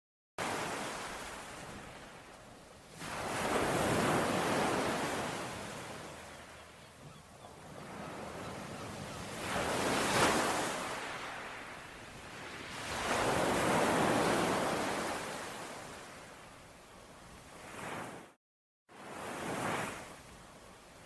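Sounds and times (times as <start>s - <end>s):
ocean waves breaking on shore: 0.4s - 21.0s.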